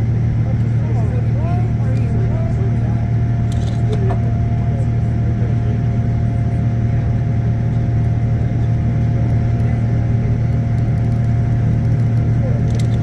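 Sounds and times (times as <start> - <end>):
airplane cabin drone: 0.0 - 13.0.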